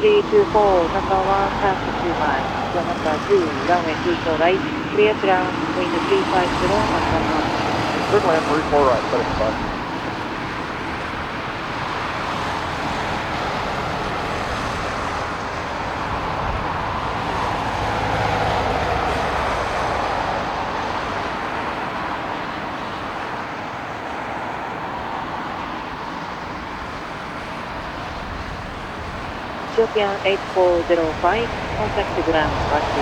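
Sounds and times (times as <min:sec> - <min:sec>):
jet engine noise: 0:00.0 - 0:23.9, 0:24.8 - 0:33.0.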